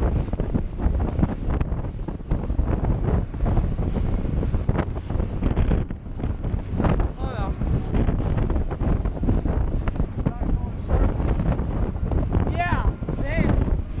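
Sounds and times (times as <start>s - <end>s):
boat engine rumble: 0.0s - 14.0s
hull banging over waves: 0.0s - 14.0s
wind buffeting microphone: 0.0s - 14.0s.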